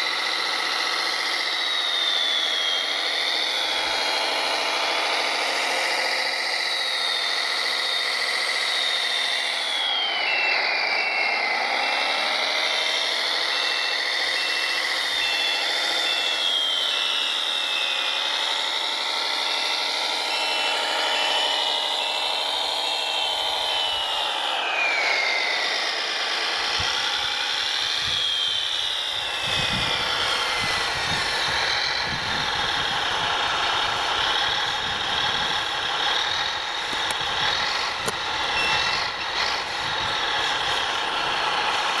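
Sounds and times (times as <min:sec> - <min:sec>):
electric motors whining: 0:00.0 - 0:42.0.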